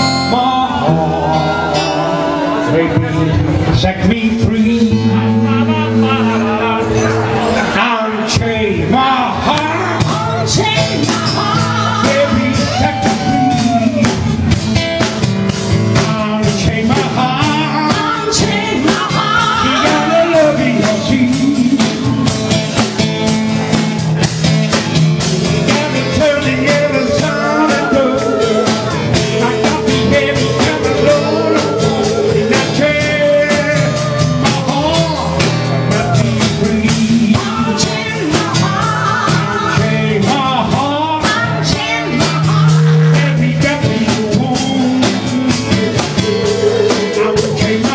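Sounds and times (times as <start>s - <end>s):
person singing: 0.0s - 14.4s, 16.0s - 22.2s, 25.5s - 47.9s
live band playing: 0.0s - 47.9s
drum kit and cymbals: 9.4s - 47.9s.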